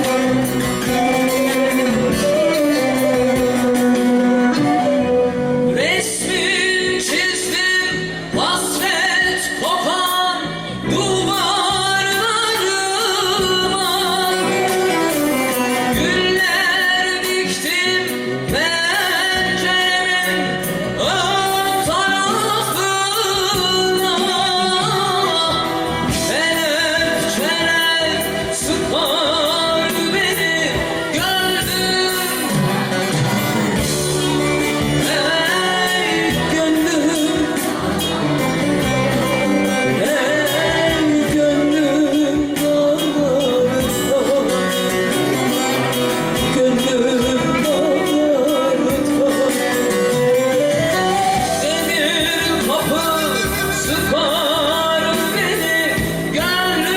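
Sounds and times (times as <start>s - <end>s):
instrumental accompaniment: 0.0s - 56.9s
woman singing folk song: 5.7s - 56.9s.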